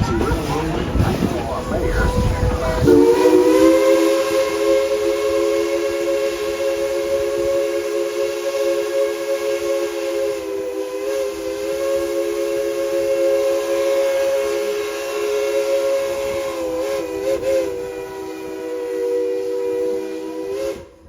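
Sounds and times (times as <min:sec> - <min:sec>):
steam locomotive whistle blast: 0:00.0 - 0:21.0.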